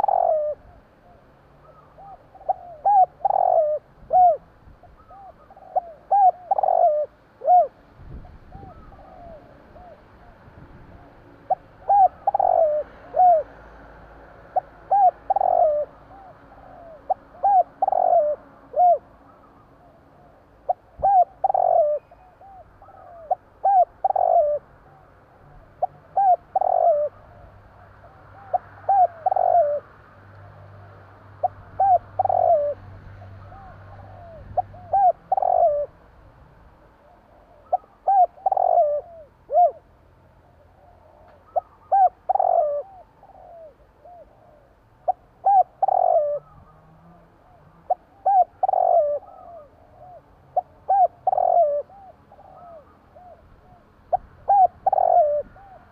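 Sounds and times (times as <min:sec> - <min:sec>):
dove cooing: 0:00.0 - 0:13.8, 0:14.5 - 0:36.0, 0:36.9 - 0:55.9.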